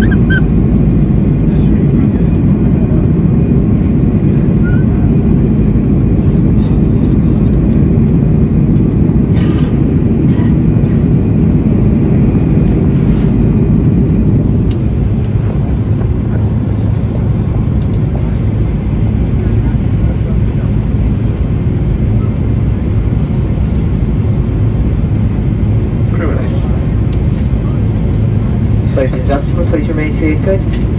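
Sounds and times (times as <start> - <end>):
aircraft engine noise in cabin: 0.0 - 30.9
airflow noise: 0.0 - 30.9.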